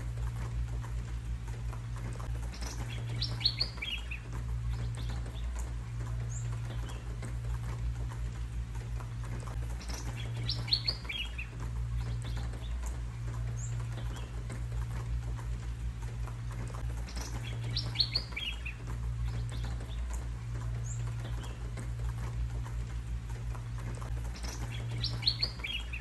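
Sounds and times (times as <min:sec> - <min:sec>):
birds chirping: 0:00.0 - 0:26.0
low steady hum: 0:00.0 - 0:26.0.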